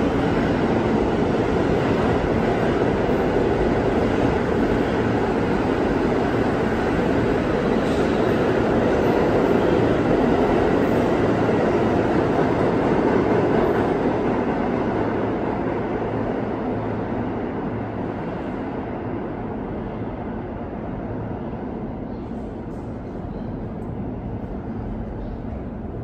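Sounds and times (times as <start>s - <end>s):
subway train rumbling on rails: 0.0s - 26.0s.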